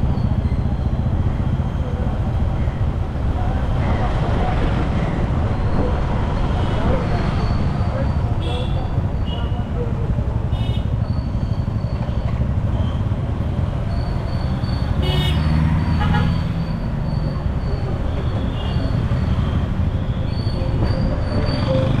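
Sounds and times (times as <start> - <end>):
vehicle rumbling along road: 0.0 - 22.0.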